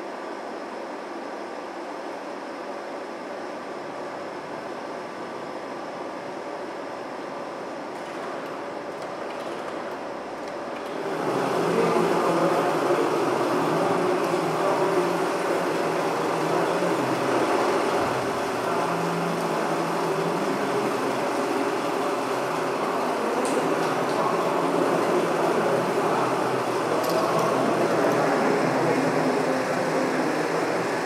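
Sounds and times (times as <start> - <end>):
projector fan whirring: 0.0 - 31.0.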